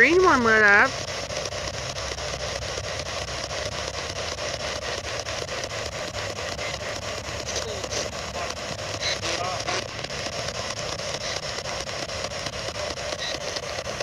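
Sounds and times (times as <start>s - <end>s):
radio static hiss: 0.0s - 14.0s
rapid even ticks: 0.0s - 14.0s.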